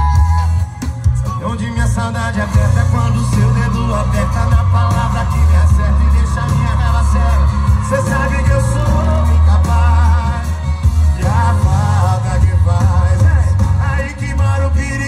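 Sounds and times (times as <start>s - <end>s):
song with singer and deep bass: 0.0s - 15.0s.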